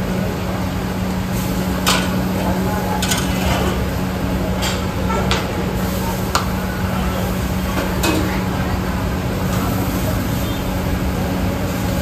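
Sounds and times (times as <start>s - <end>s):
food sizzling on hot griddle: 1.2s - 4.0s, 4.6s - 12.0s.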